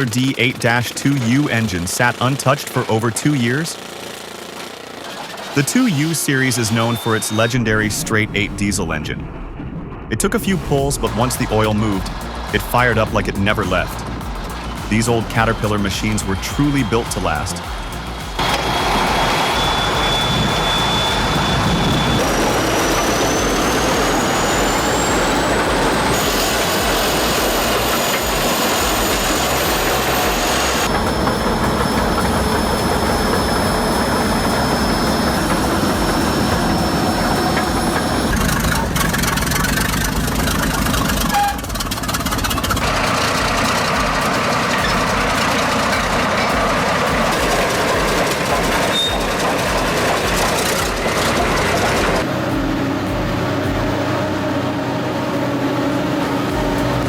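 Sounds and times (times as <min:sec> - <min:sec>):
heavy diesel engines running: 0:00.0 - 0:08.8, 0:10.5 - 0:57.0.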